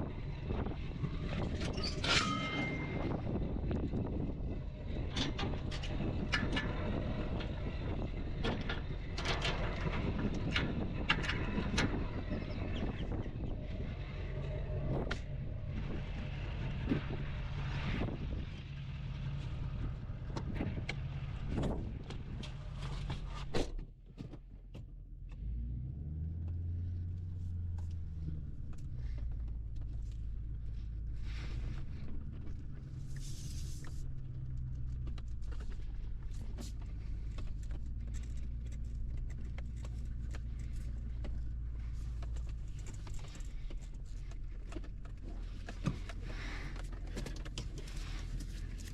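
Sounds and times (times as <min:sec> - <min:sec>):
tractor engine humming: 0:00.0 - 0:23.4, 0:25.3 - 0:48.9.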